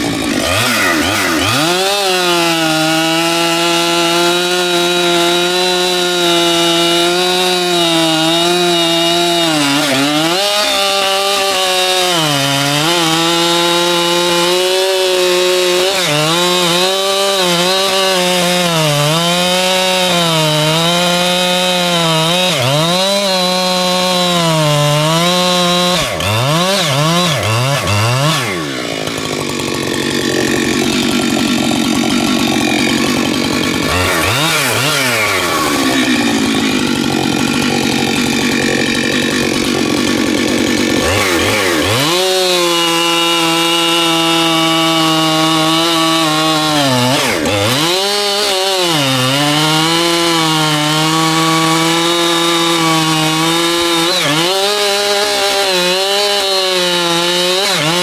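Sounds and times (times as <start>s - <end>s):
chainsaw running hard: 0.0s - 58.0s.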